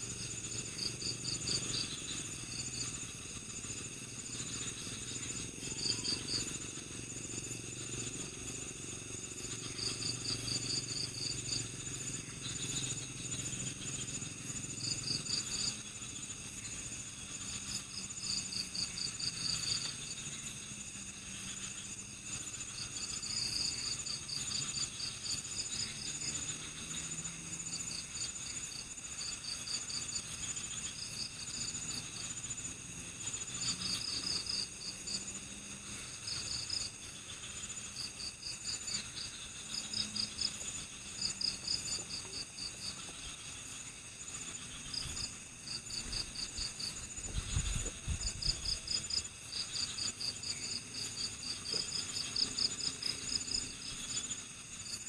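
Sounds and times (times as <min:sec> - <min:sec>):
bursts of rapid cricket chirps: 0:00.0 - 0:55.0
high-pitched insect drones: 0:00.0 - 0:55.0.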